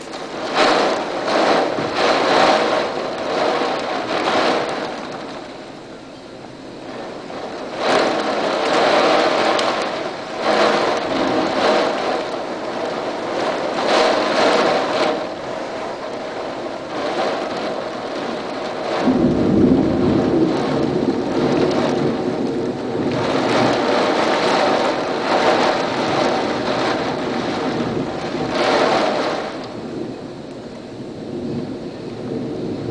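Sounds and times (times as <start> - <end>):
high wind gusting: 0.0 - 32.9.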